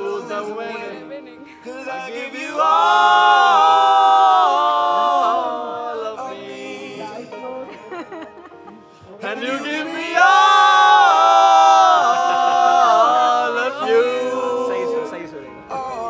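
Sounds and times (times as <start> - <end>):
voices singing a long note: 0.0 - 7.7, 9.2 - 16.0.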